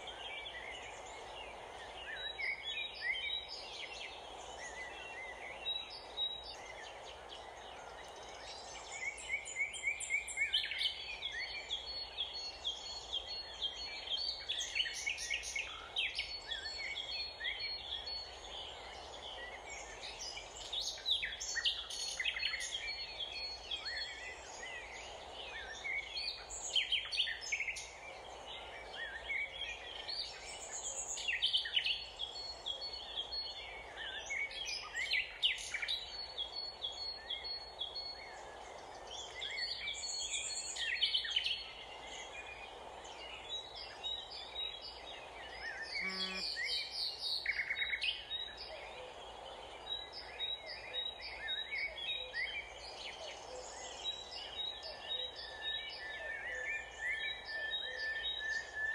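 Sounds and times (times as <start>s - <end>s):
faint steady hiss: 0.0s - 58.9s
small birds chirping: 0.0s - 58.9s.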